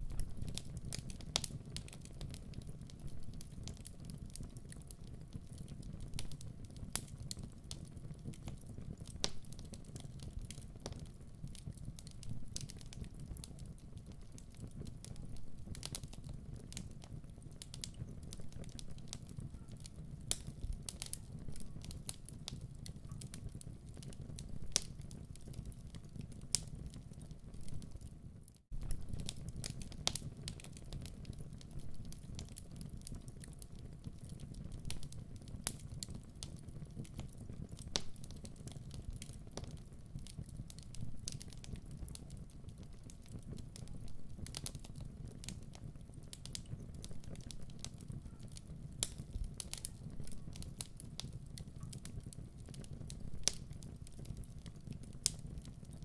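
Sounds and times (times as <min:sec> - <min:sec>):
low rumble of burning logs: 0:00.0 - 0:56.0
wood fire crackling: 0:00.0 - 0:56.0.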